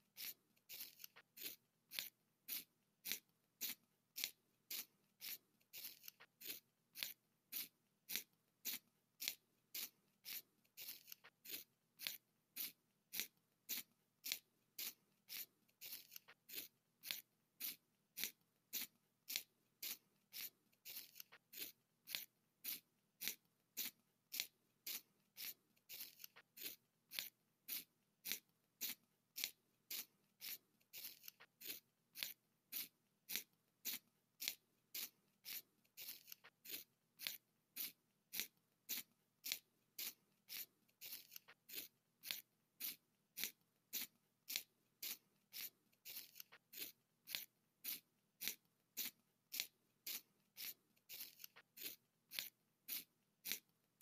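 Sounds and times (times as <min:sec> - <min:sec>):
pencil sharpener scraping: 0:00.0 - 0:54.0.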